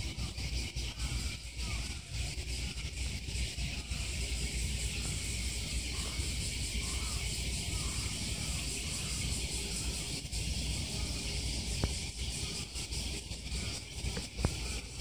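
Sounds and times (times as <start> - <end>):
high insect-like hiss: 0.0 - 15.0.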